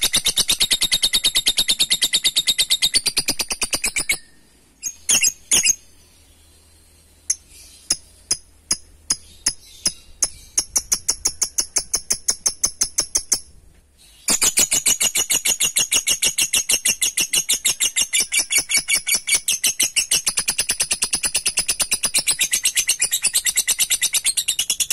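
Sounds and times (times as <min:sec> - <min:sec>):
lovebird chattering trill: 0:00.0 - 0:05.8, 0:07.3 - 0:13.5, 0:14.2 - 0:24.9.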